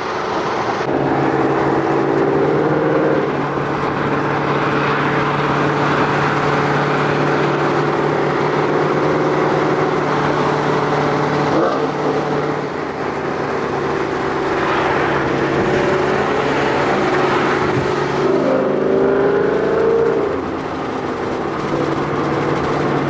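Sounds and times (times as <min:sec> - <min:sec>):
car engine cruising: 0:00.0 - 0:23.0
road and tyre noise: 0:00.0 - 0:23.0.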